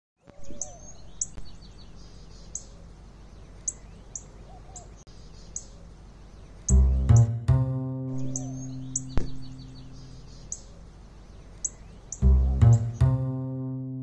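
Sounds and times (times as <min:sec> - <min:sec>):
small birds chirping: 0:00.2 - 0:07.4, 0:08.1 - 0:13.2
steady low background noise: 0:00.6 - 0:14.0.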